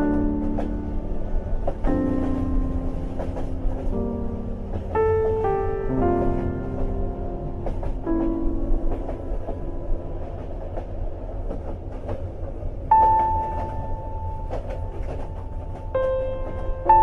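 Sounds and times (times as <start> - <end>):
sustained piano notes: 0.0 - 17.0
train rumbling on rails: 0.0 - 17.0
wheels clicking on track: 0.1 - 4.0, 6.2 - 9.6, 10.2 - 17.0.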